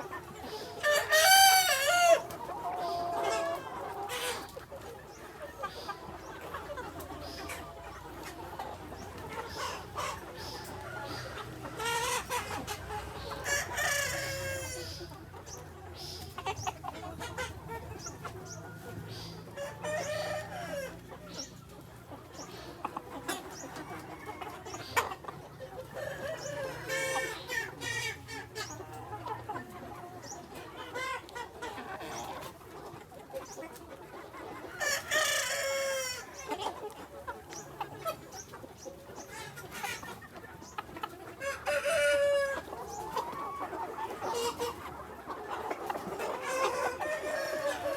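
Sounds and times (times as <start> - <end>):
hens clucking: 0.0 - 47.9.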